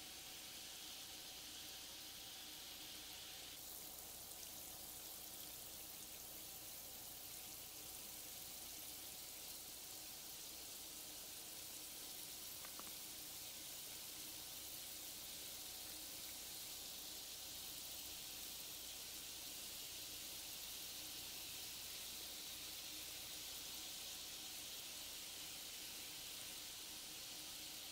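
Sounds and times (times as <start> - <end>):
bath bomb fizzing in water: 0.0 - 27.9.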